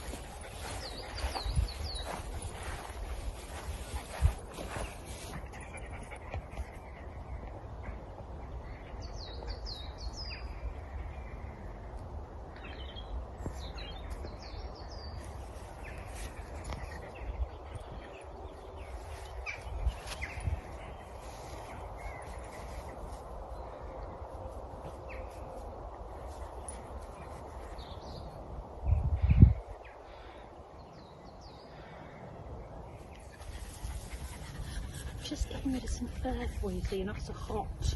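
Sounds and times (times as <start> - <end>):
birds chirping: 0.0 - 11.8, 12.5 - 37.9.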